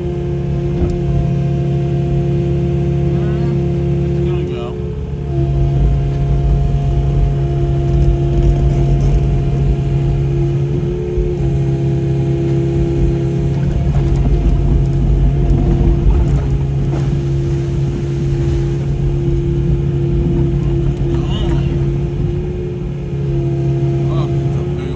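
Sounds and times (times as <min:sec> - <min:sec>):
engine running low rumble: 0:00.0 - 0:24.9.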